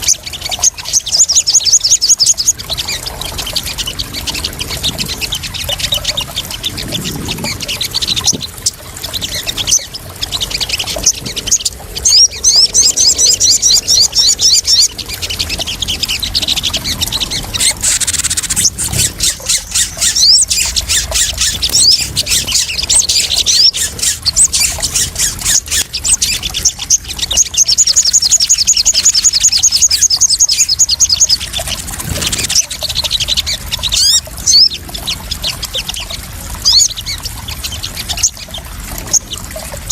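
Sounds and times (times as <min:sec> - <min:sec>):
bird trilling and chattering: 0:00.0 - 0:39.9
splashing trickling water: 0:00.0 - 0:39.9.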